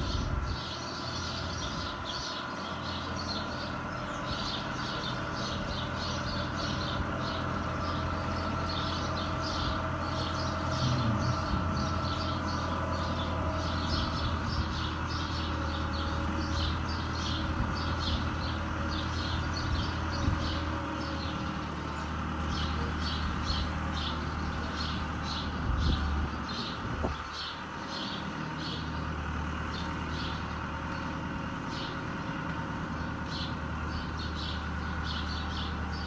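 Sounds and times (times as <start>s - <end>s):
birds chirping: 0.0s - 36.0s
mower whine: 0.0s - 36.0s
tractor diesel engine: 0.0s - 36.0s.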